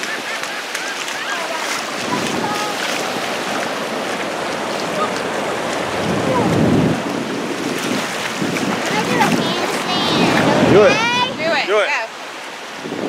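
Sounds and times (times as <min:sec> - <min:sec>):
surf washing in: 0:00.0 - 0:13.0
wind on the microphone: 0:01.7 - 0:11.8, 0:12.6 - 0:13.0.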